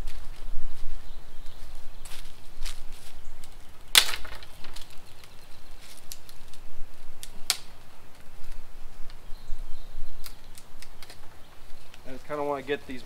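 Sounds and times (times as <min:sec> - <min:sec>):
dry sticks crackling and snapping: 0:02.0 - 0:12.8.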